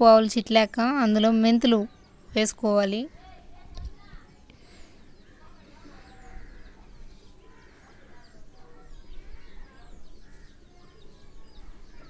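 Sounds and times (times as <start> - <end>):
birds chirping: 0.0 - 12.0
low clucking bird calls: 0.4 - 12.0.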